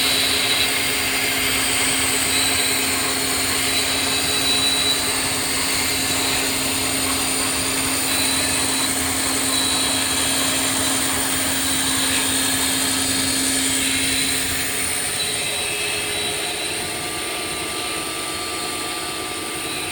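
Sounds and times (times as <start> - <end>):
machine mechanical whine: 0.0 - 19.9.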